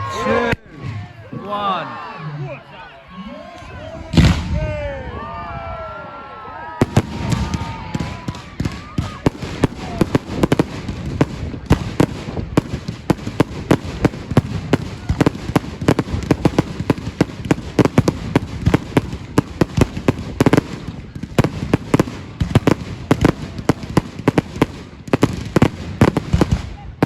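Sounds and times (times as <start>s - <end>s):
fireworks and firecrackers banging: 3.2s - 6.0s, 6.6s - 27.0s.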